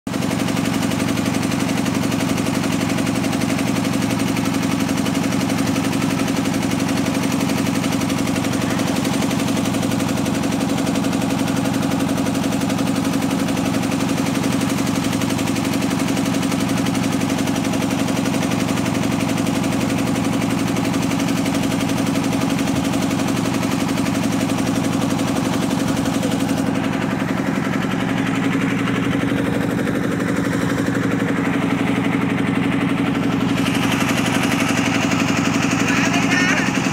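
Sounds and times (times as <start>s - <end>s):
boat engine chugging: 0.1s - 36.9s.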